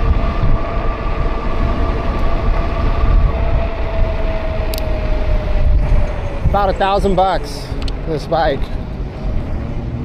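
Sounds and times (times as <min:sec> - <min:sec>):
electric bike motor whine: 0:00.0 - 0:09.8
wind rumble on microphone: 0:00.0 - 0:10.0.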